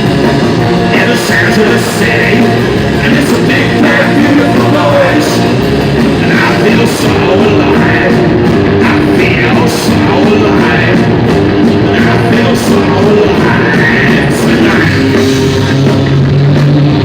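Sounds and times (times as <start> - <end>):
live punk rock band: 0.0 - 17.0.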